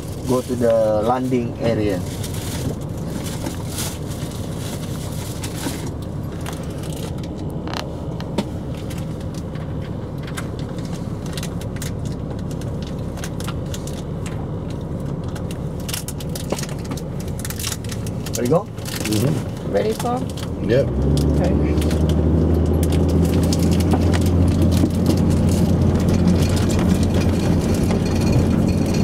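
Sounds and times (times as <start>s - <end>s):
vehicle rumbling: 0.0s - 29.0s.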